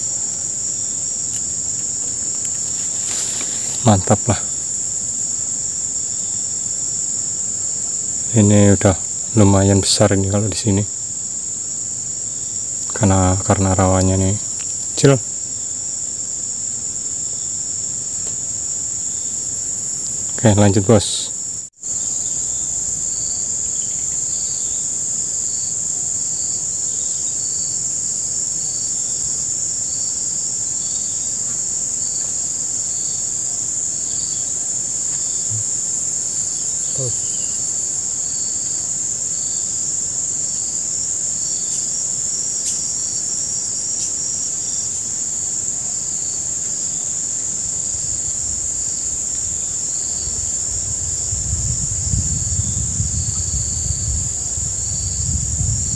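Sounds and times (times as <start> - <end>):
insect chirping: 0.0 - 55.9
insects droning: 0.0 - 55.9.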